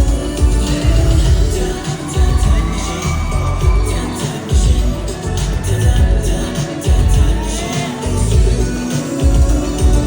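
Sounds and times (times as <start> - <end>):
heavy bass beat: 0.0 - 10.0
live pop music: 0.0 - 10.0.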